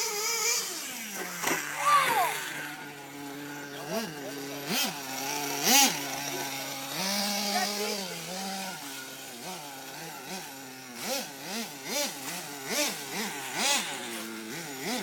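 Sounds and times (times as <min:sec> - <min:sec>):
small gasoline engine revving: 0:00.0 - 0:15.0.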